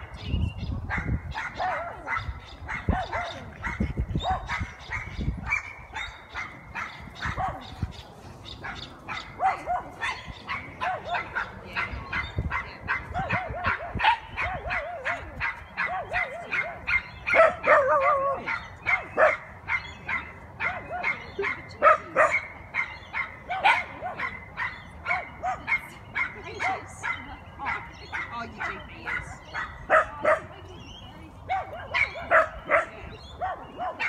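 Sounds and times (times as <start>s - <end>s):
dog barking: 0.9s - 7.8s, 8.6s - 30.6s, 31.5s - 34.0s.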